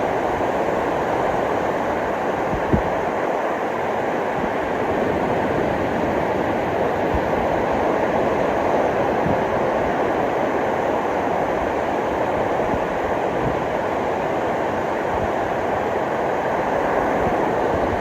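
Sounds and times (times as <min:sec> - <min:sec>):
ocean surf on a beach: 0:00.0 - 0:18.0.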